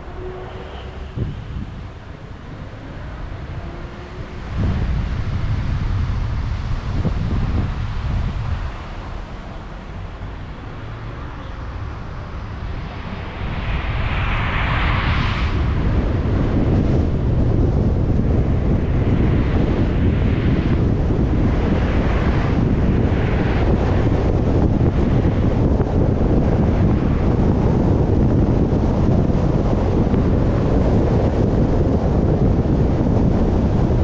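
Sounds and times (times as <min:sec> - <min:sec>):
car road rumble: 0:00.0 - 0:34.0
rush of noise: 0:00.0 - 0:34.0
wind buffeting microphone: 0:00.0 - 0:34.0.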